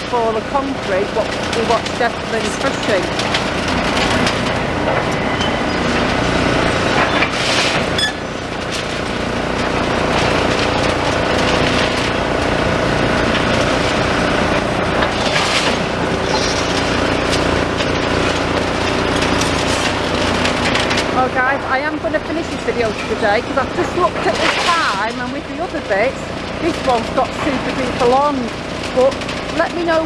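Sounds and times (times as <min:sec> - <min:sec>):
debris clattering and scraping: 0:00.0 - 0:30.0
heavy diesel engine running: 0:00.0 - 0:30.0.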